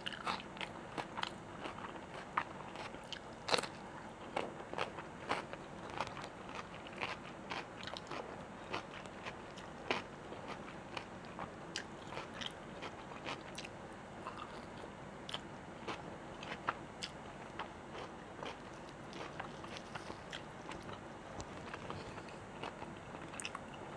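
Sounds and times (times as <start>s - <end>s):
person chewing crunchy food: 0.0s - 23.9s.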